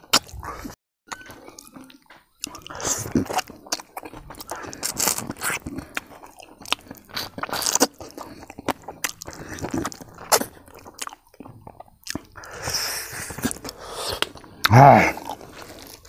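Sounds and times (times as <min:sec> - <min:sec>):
chewing with mouth clicks: 0:00.0 - 0:16.0.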